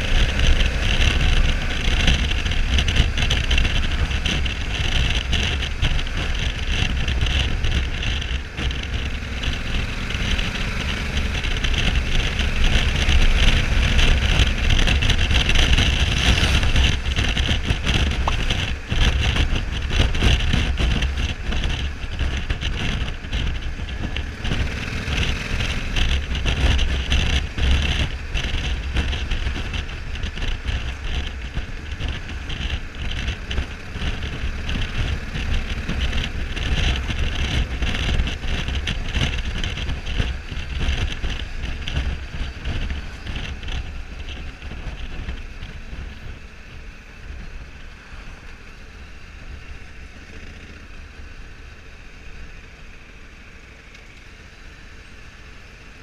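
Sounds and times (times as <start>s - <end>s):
wind rush on microphone: 0.0s - 53.5s
motorcycle engine running: 0.0s - 56.0s.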